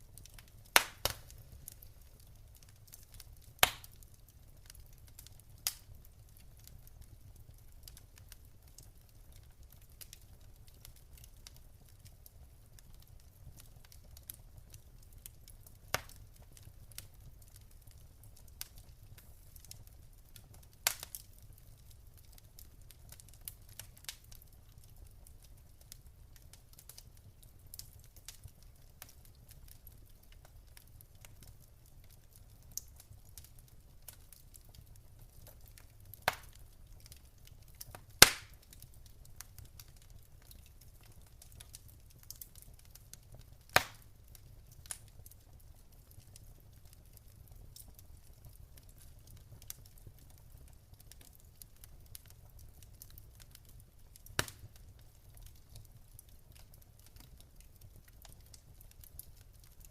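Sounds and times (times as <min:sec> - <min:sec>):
fire crackles and pops: 0:00.0 - 0:59.9
wood fire rumbling: 0:00.0 - 0:59.9.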